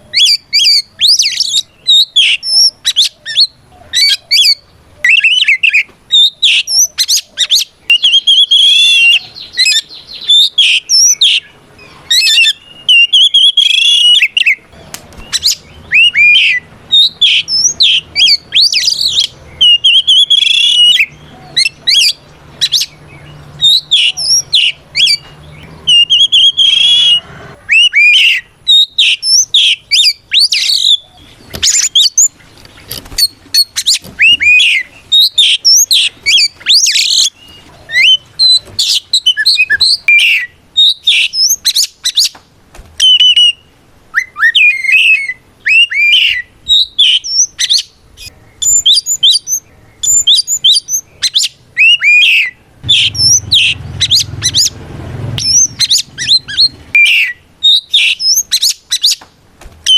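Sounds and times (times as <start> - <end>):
bird singing whistled phrases: 0.1 - 14.6, 15.2 - 32.3, 33.2 - 42.3, 43.0 - 54.8, 55.4 - 59.2.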